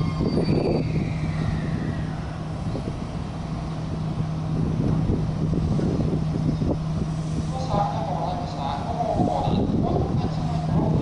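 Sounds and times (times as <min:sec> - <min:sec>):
electric train humming: 0:00.0 - 0:11.0
low rumbling: 0:00.0 - 0:11.0.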